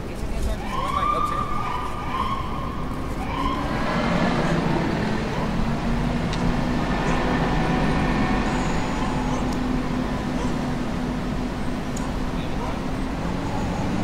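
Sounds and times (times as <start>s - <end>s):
street traffic: 0.0s - 14.0s
vehicle engine humming: 0.0s - 14.0s.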